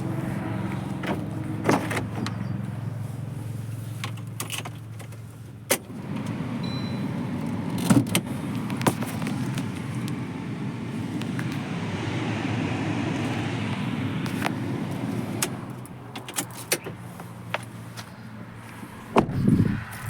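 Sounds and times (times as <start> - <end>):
rough rumble: 0.0 - 16.2, 16.9 - 20.0
car engine running: 0.0 - 20.0.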